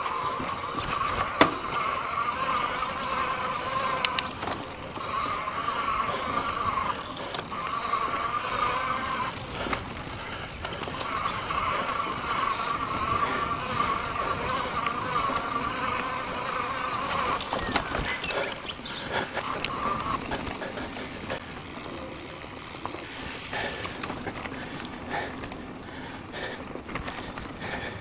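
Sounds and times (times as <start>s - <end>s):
bike rattling and knocking: 0.0s - 28.0s
electric bike motor whining: 0.0s - 28.0s.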